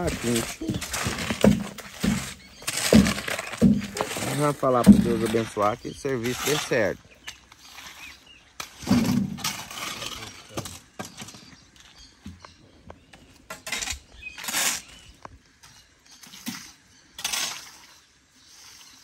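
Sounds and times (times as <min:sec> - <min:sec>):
trowel scraping stone: 0:00.0 - 0:11.5, 0:13.5 - 0:17.9.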